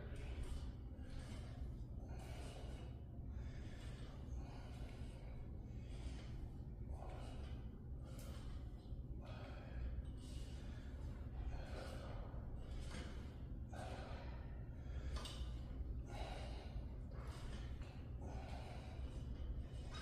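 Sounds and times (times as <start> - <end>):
low steady hum: 0.0 - 20.0
man breathing hard: 0.0 - 20.0.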